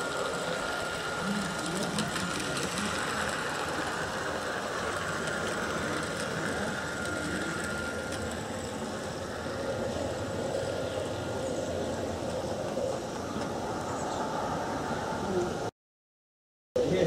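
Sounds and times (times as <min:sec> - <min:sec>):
model locomotive running: 0:00.0 - 0:15.7
thin whine: 0:00.0 - 0:15.7.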